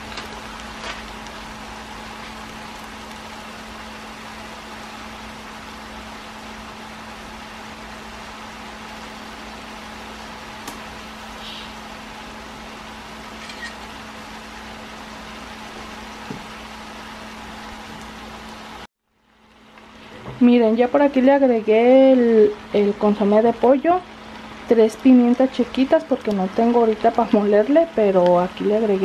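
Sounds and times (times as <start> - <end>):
steady low hum with hiss: 0.0 - 29.0.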